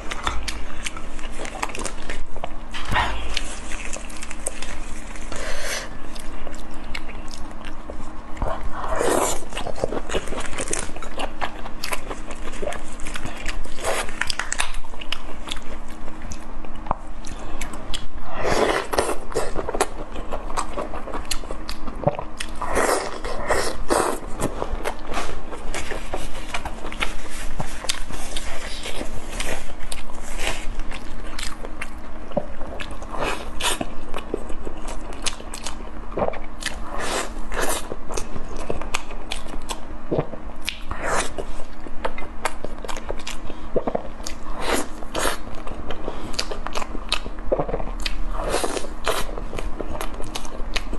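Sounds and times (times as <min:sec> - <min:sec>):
chewing: 0:00.0 - 0:50.9
faint steady hum: 0:00.0 - 0:50.9.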